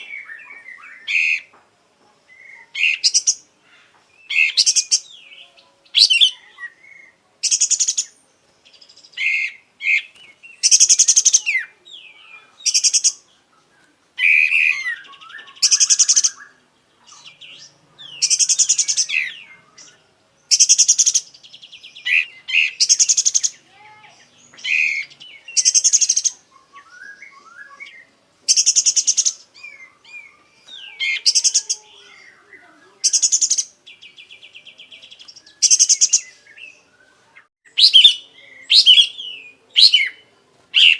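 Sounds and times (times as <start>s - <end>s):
bird singing rattling phrases: 0.0s - 1.6s, 2.2s - 40.9s.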